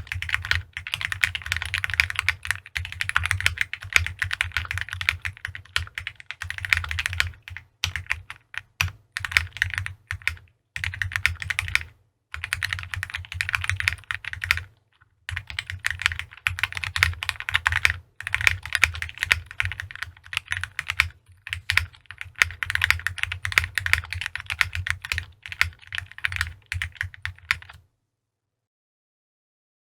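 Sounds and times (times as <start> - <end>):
typing on mechanical keyboard: 0.0 - 14.7, 15.3 - 27.8.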